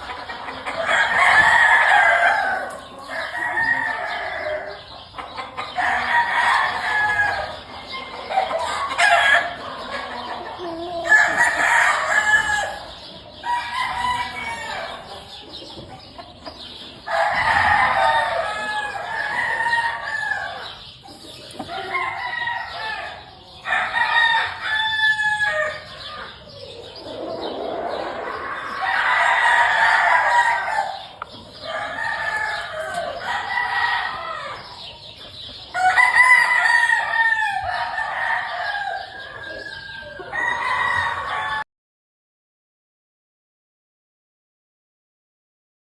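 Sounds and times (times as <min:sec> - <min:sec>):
chickens clucking: 0:00.0 - 0:41.6
roosters crowing: 0:00.0 - 0:41.7.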